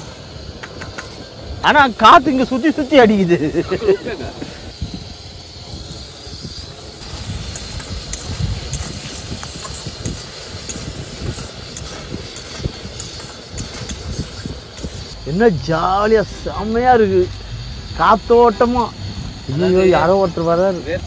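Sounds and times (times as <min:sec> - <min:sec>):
gas burner hiss: 0:00.0 - 0:21.0
onions sizzling in a pan: 0:00.0 - 0:21.0
wind rumble on microphone: 0:03.7 - 0:21.0.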